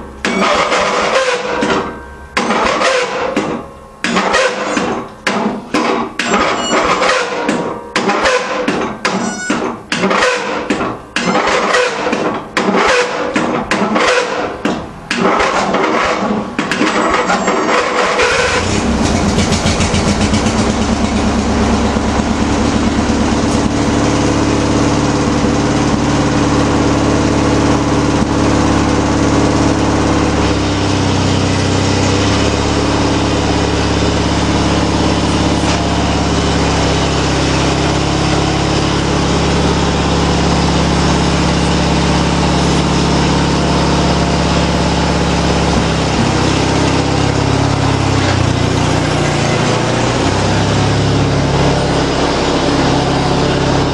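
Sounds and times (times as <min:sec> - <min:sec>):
lawn tractor engine running: 0:00.0 - 0:53.9.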